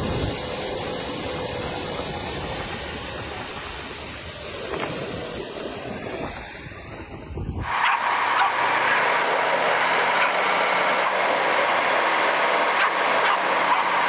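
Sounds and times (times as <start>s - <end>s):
heavy truck engine running: 0.0s - 14.0s.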